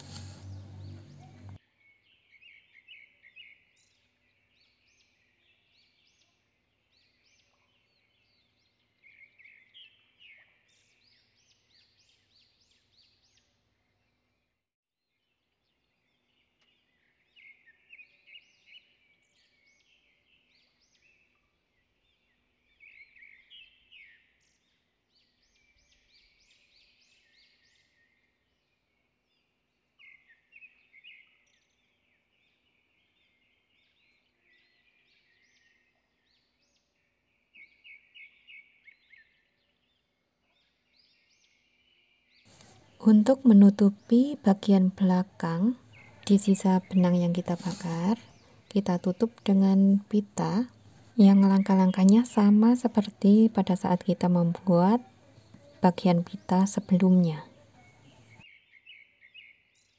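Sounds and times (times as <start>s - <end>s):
faint birds chirping: 0.0s - 14.5s, 15.2s - 59.9s.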